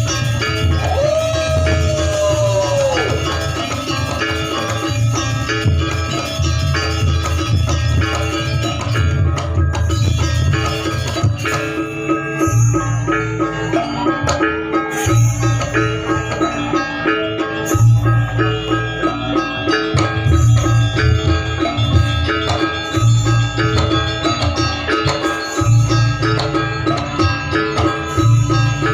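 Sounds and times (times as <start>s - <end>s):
drums: 0.0s - 28.9s
metallophones ringing: 0.0s - 28.9s.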